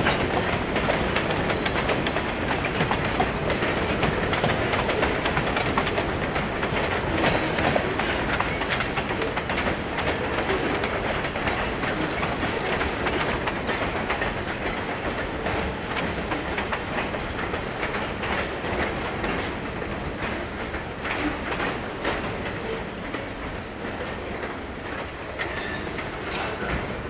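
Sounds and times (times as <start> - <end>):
freight train wheels clattering: 0.0 - 27.0.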